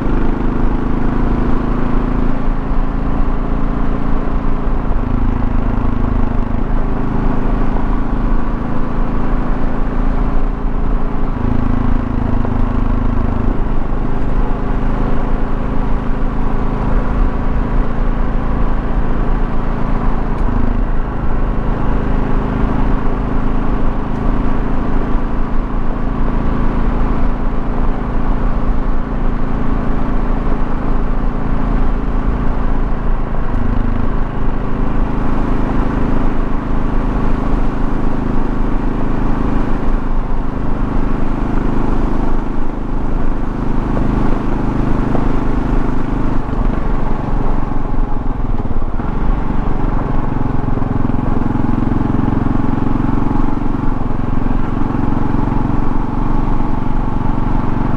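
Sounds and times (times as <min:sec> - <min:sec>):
motorcycle engine running: 0:00.0 - 0:57.9
road noise: 0:00.0 - 0:57.9.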